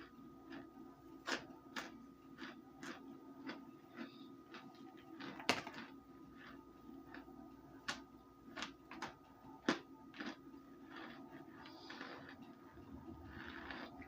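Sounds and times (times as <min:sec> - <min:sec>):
faint steady hum: 0:00.0 - 0:14.0
crisp chewing crunches: 0:00.4 - 0:14.0.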